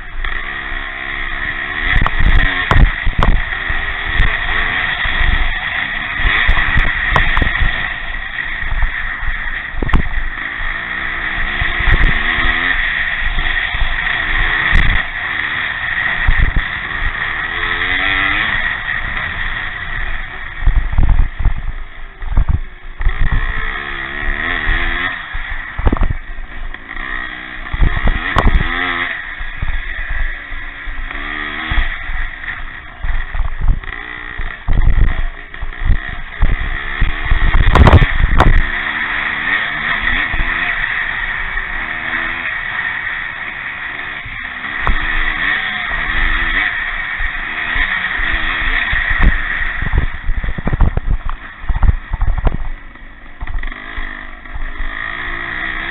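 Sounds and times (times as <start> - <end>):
motorcycle engines racing: 0.0 - 55.9.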